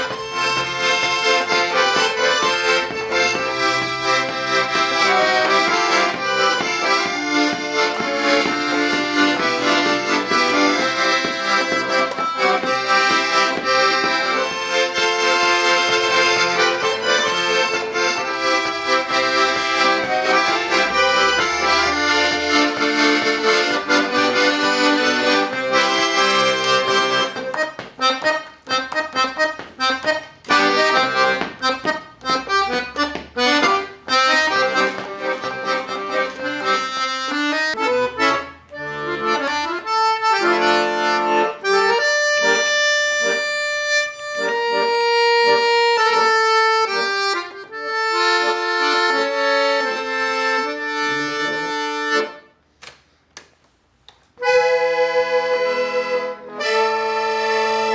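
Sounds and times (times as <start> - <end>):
accordion playing: 0.0 - 53.2, 53.9 - 57.9.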